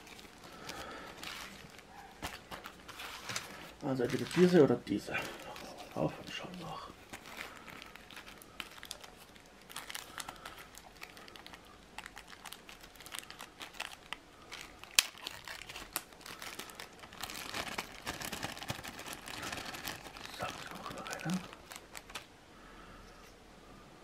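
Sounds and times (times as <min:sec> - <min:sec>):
plastic bags crinkling: 0:00.0 - 0:22.3.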